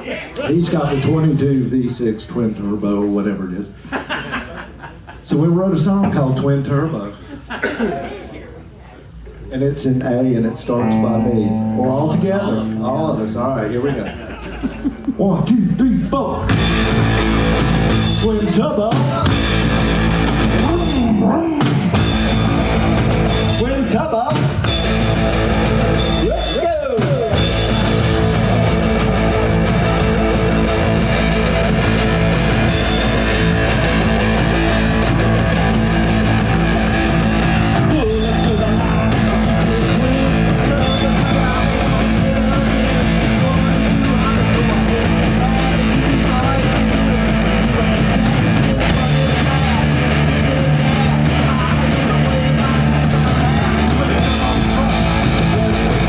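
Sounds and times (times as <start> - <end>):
guitar: 10.7 - 56.0
rock band playing live: 10.8 - 56.0.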